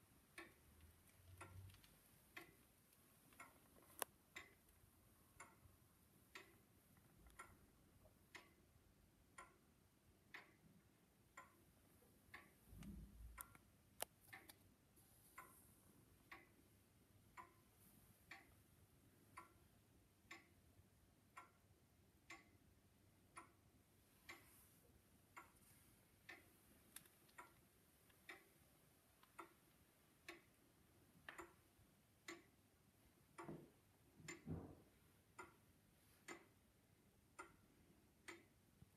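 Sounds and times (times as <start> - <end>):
pendulum clock ticking: 0.0 - 38.9.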